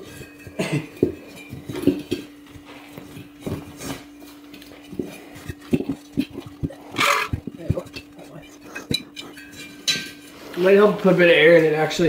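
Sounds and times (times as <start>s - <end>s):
tire knocks and metallic clinks: 0.0s - 10.4s
low steady hum: 0.0s - 12.0s.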